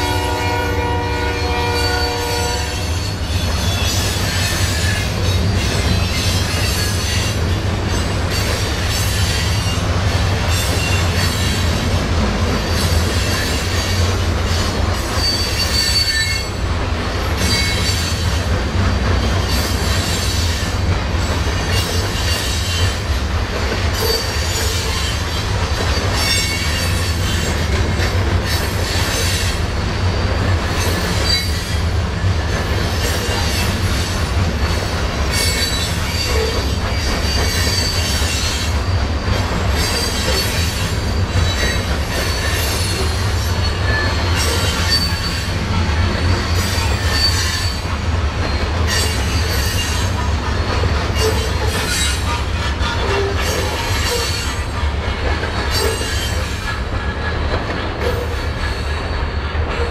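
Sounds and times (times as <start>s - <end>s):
train cars clacking: 0.0s - 59.9s
train rumbling: 0.0s - 59.9s
train wheels squealing: 1.4s - 11.9s, 12.5s - 23.2s, 23.8s - 59.9s.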